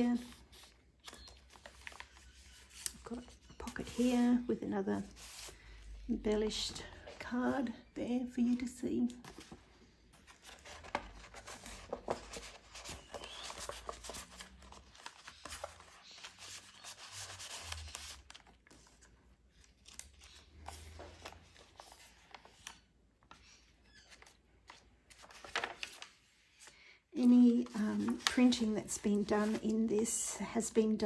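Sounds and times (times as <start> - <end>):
paper pages rustling: 0.0 - 5.7, 8.4 - 30.2.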